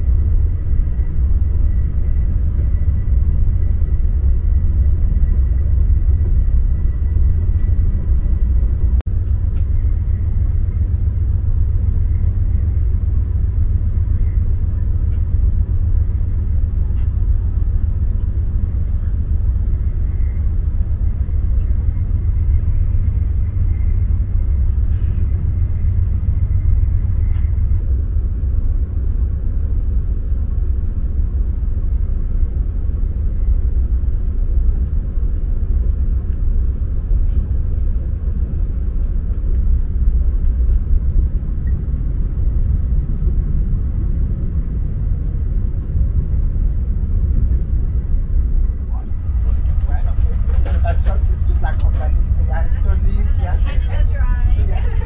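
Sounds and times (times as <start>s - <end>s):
train rumbling inside car: 0.0s - 55.0s.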